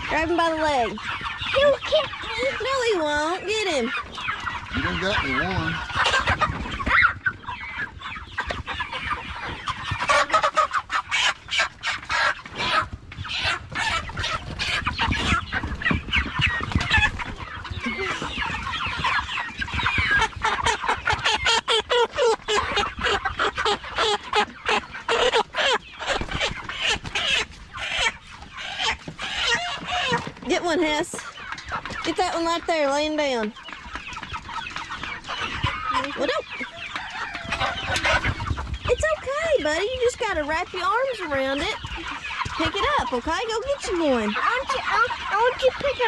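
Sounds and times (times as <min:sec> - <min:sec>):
chickens clucking and squawking: 0:00.0 - 0:46.0.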